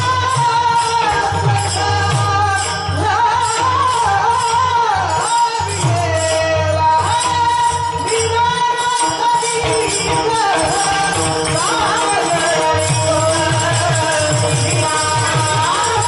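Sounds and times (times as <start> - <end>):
jingling percussion: 0.0 - 16.0.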